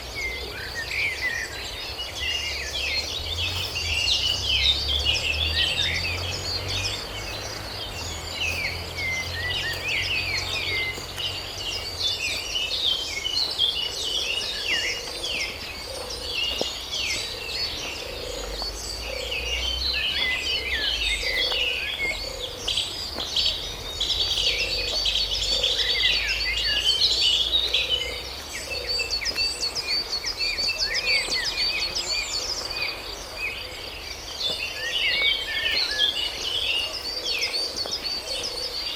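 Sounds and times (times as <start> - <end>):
chorus of small birds chirping: 0.0 - 38.9.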